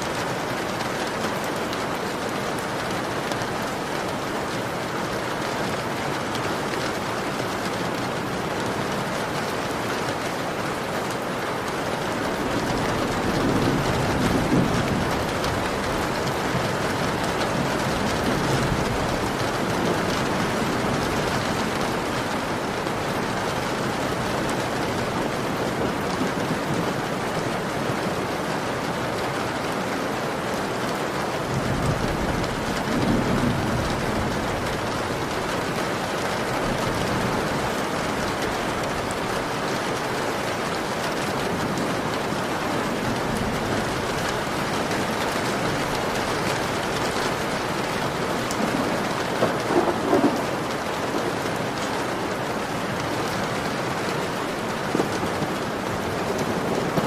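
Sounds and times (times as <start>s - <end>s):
heavy rain on window: 0.0s - 57.0s.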